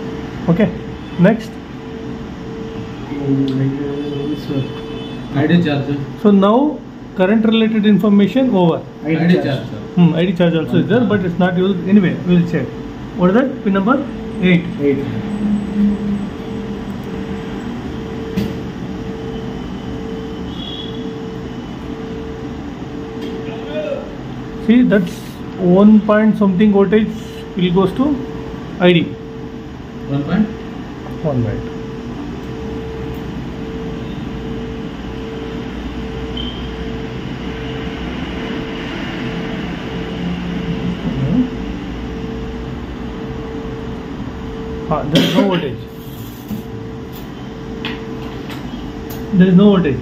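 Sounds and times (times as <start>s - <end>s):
faint pulsing tone: 0.0s - 6.1s, 8.8s - 50.0s
machine hum: 0.0s - 50.0s.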